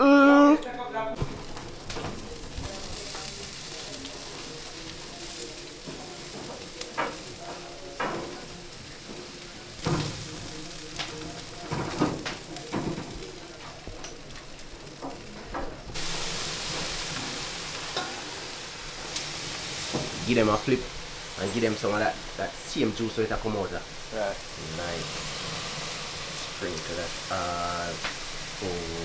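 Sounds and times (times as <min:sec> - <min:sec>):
chicken sizzling on a grill: 0:01.2 - 0:29.0.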